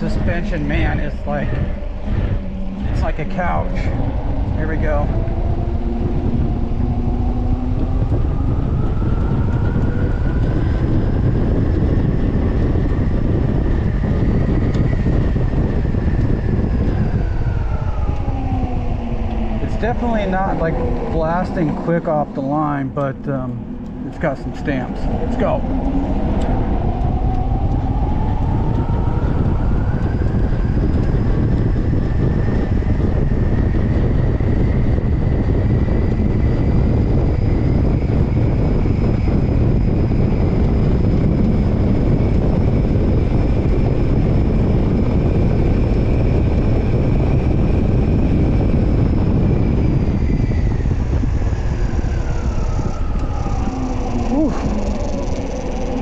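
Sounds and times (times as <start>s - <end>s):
electric motor whining: 0.0s - 56.0s
wind rush on microphone: 0.0s - 56.0s.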